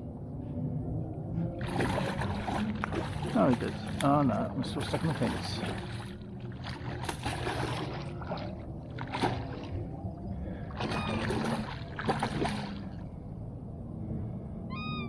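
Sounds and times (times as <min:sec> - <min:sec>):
low rumble: 0:00.0 - 0:15.0
water splashing and sloshing: 0:00.4 - 0:14.0.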